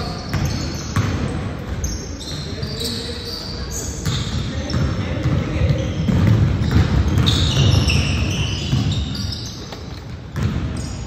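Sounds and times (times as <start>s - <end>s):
basketball bouncing on court: 0.0s - 2.9s, 4.0s - 11.0s
shoe squeaks: 0.0s - 11.0s.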